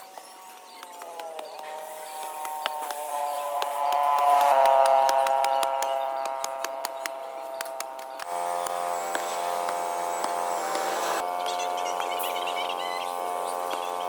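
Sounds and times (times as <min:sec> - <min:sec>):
small motor buzzing: 0:01.2 - 0:14.0.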